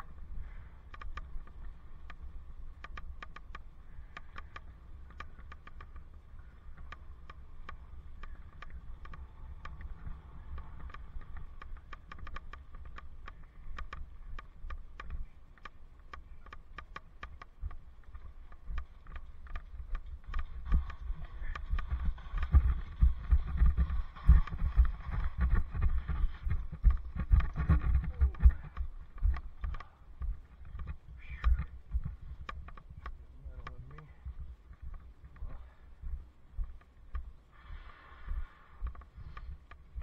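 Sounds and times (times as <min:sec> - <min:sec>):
light clicks and ticks: 0:00.0 - 0:40.0
wind rumble on microphone: 0:00.0 - 0:40.0.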